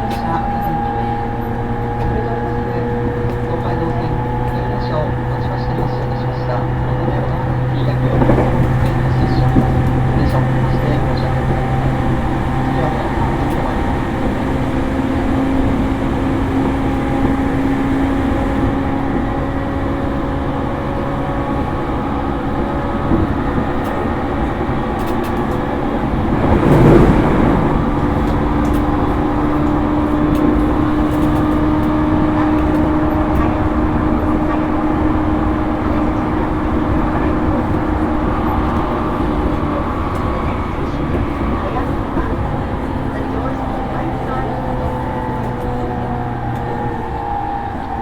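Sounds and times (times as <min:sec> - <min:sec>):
traction motor hum: 0:00.0 - 0:48.0
train rail rumble: 0:00.0 - 0:48.0.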